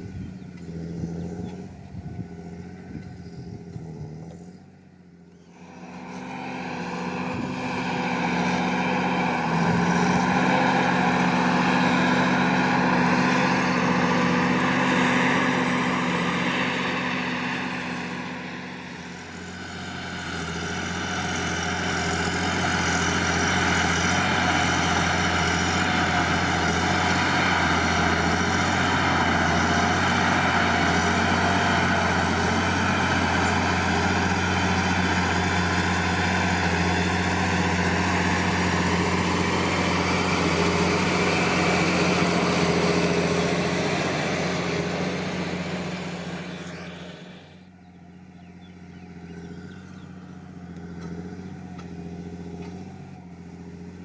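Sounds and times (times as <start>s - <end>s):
tractor diesel engine running hard: 0.0s - 54.0s.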